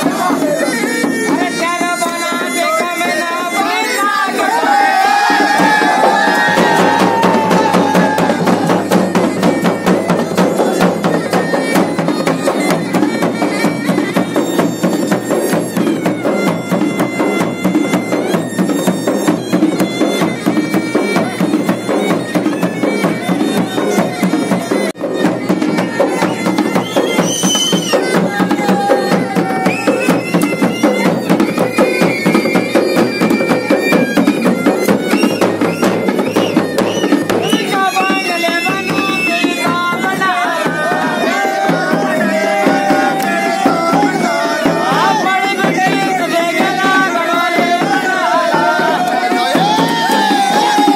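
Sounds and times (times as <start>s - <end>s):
drums beating rapidly: 0.0s - 50.9s
bagpipe playing: 5.9s - 49.8s.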